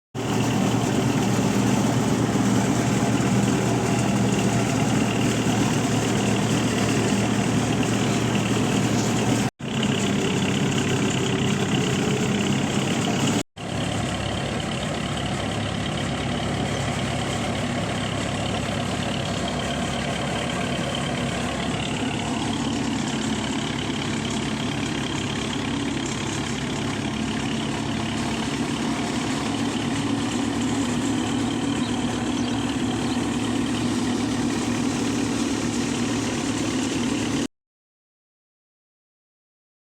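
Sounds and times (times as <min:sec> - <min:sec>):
tractor engine running: 0:00.1 - 0:37.5.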